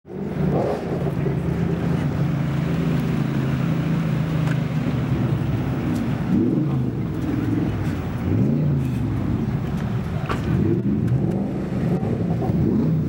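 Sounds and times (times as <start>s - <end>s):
car engine running at low revs: 0.1s - 13.0s.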